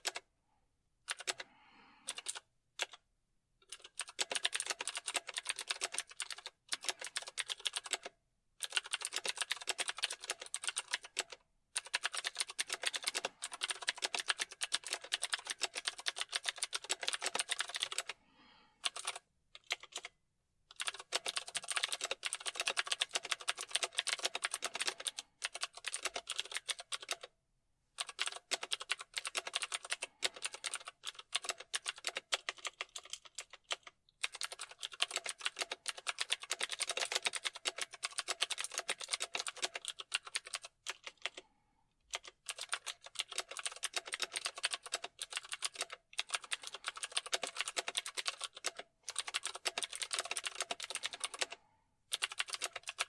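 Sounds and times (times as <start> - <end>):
typing on computer keyboard: 0.0 - 0.2, 1.1 - 1.4, 2.0 - 3.0, 3.6 - 18.2, 18.8 - 27.4, 28.0 - 41.5, 42.1 - 53.0.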